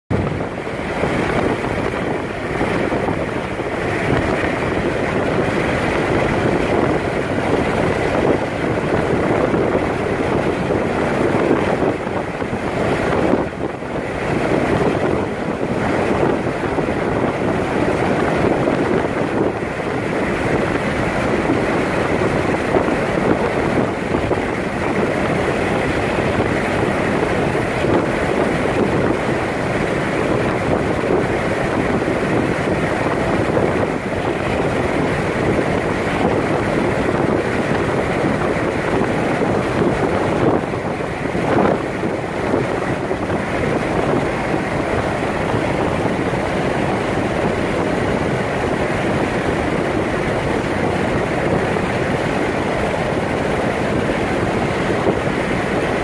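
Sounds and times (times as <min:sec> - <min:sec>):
wind blowing over microphone: 0:00.1 - 0:56.0.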